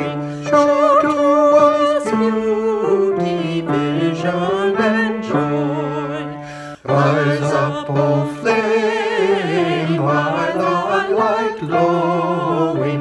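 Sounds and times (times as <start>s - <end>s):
group singing in parts: 0.0s - 13.0s.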